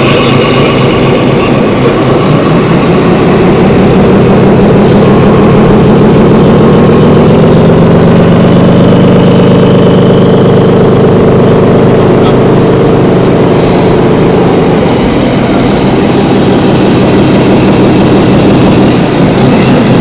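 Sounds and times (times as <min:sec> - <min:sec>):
model truck diesel engine sound: 0:00.0 - 0:20.0.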